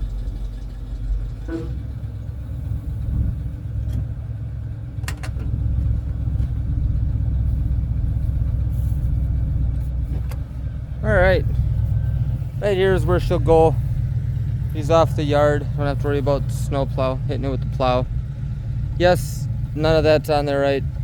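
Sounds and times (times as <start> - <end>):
tow truck engine rumbling: 0.0 - 21.0.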